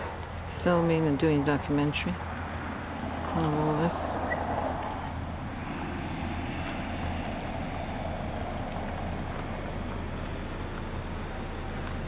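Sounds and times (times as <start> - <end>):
drilling rig low drone: 0.0 - 12.0
outdoor rumble: 0.0 - 12.0.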